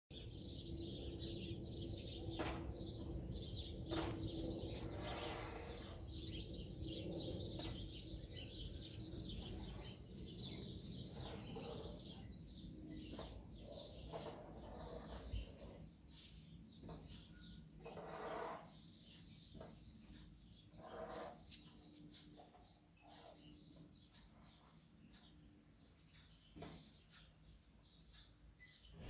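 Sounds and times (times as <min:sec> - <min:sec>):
songbirds chirping: 0:00.1 - 0:29.0.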